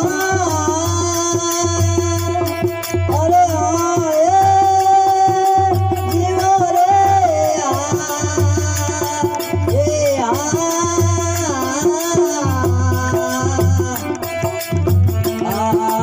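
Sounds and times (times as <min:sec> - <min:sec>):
folk devotional singing: 0:00.0 - 0:16.0
hand drum and rattle beat: 0:00.0 - 0:16.0.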